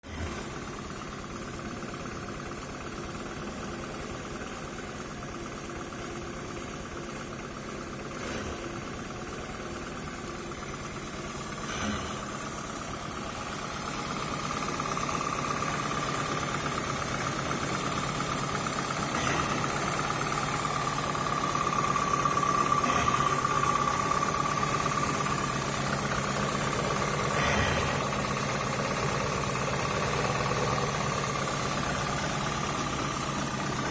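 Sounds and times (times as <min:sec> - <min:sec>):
car engine idling unevenly: 0:00.0 - 0:33.9.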